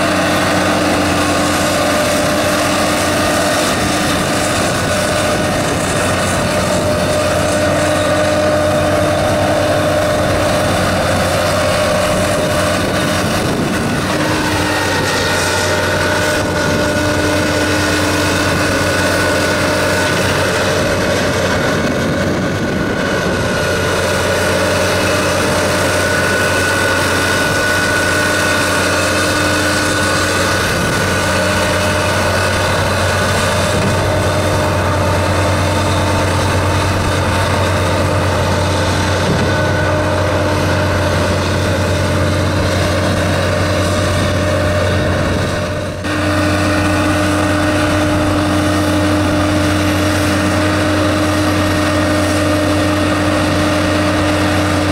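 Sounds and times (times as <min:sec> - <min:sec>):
diesel engine running steadily: 0:00.0 - 0:54.9.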